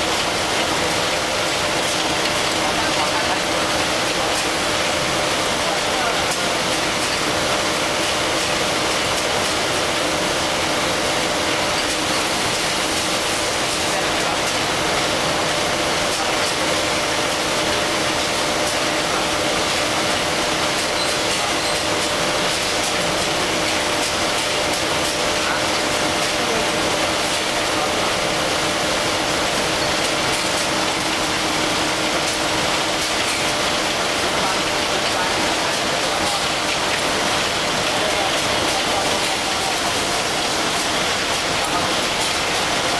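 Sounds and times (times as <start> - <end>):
faint conveyor clicking: 0.0 - 42.9
production line machinery hum: 0.0 - 42.9.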